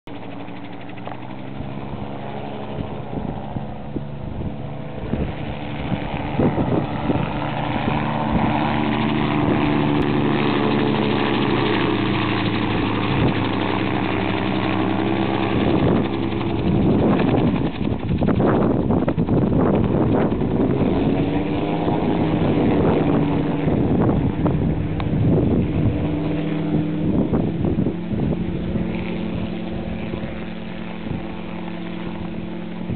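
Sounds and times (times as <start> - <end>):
gyrocopter engine and propeller droning: 0.0 - 32.9.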